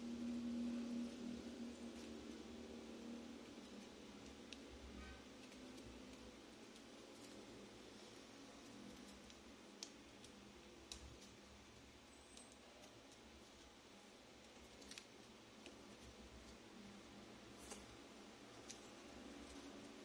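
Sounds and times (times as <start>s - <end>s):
faint room hiss: 0.0s - 20.0s.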